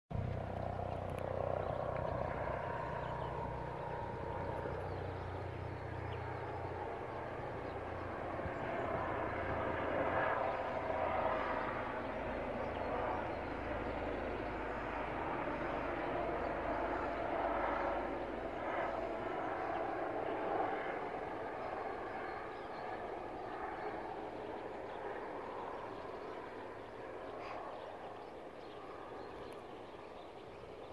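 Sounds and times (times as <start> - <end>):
helicopter passing overhead: 0.1 - 30.9.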